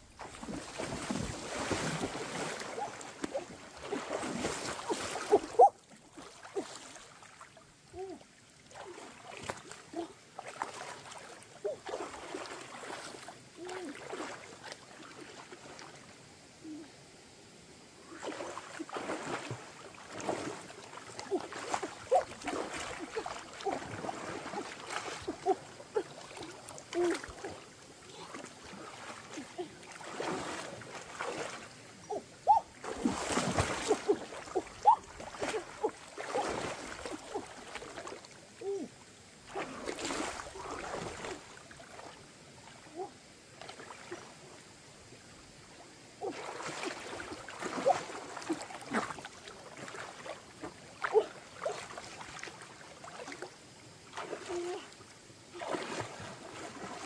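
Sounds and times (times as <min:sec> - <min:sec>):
water splashing and sloshing: 0:00.0 - 0:57.0.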